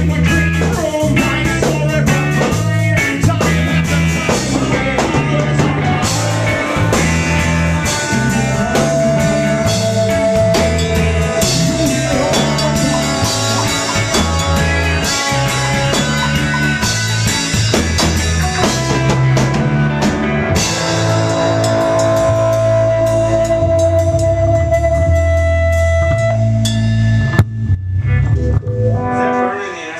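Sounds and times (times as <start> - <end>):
rock band playing: 0.0 - 29.9.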